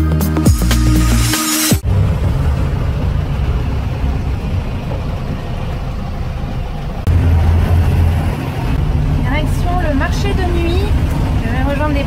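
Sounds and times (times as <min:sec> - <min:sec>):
vehicle engine rumble: 0:00.5 - 0:12.0
traffic noise: 0:01.8 - 0:12.0
wind: 0:01.8 - 0:12.0.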